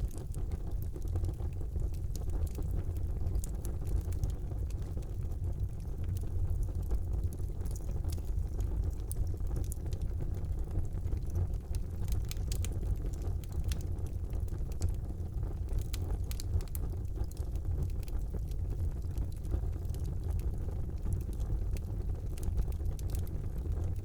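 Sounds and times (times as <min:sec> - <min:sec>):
low rumble of flames: 0:00.0 - 0:24.0
wood crackling and popping: 0:00.0 - 0:24.0.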